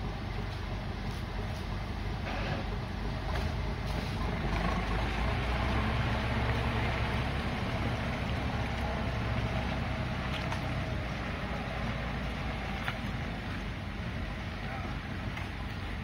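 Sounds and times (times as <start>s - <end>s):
tractor diesel engine rumbling: 0.0s - 16.0s.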